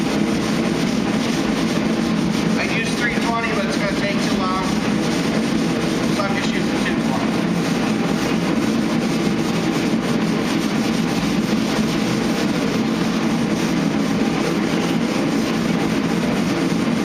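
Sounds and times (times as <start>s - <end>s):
orbital sander running: 0.0s - 17.0s.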